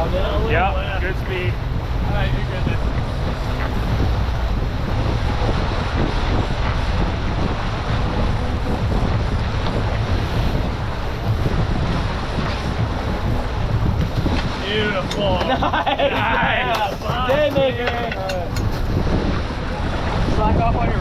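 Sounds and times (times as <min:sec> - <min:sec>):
boat engine rumble: 0:00.0 - 0:21.0
water rushing along hull: 0:00.0 - 0:21.0
wind buffeting microphone: 0:00.0 - 0:21.0.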